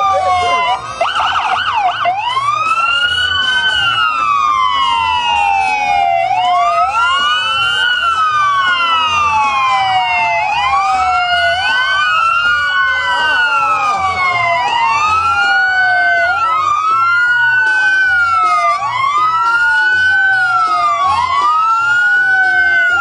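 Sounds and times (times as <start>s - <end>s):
emergency vehicle sirens wailing: 0.0s - 23.0s.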